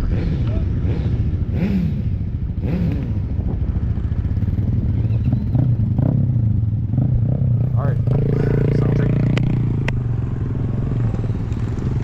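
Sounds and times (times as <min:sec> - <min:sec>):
motorcycle engine revving: 0:00.0 - 0:12.0
motorcycle engines rumbling: 0:00.0 - 0:12.0.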